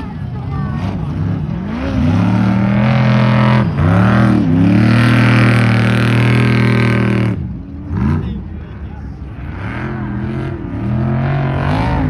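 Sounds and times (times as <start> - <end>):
race truck engine revving: 0.0 - 12.0.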